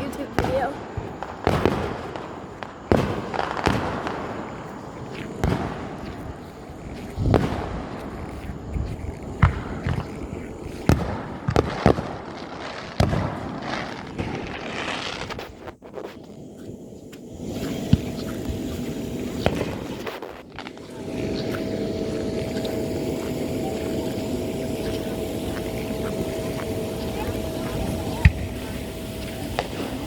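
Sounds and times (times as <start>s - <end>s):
fireworks exploding: 0.0s - 30.0s.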